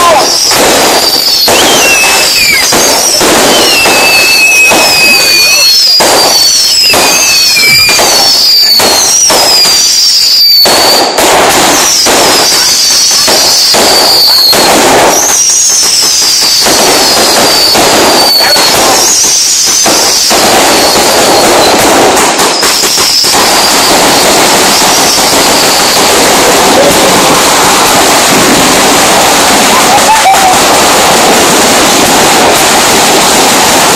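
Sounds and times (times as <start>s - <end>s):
falling firework whistles: 0.0s - 33.9s
fireworks banging and crackling: 0.0s - 33.9s.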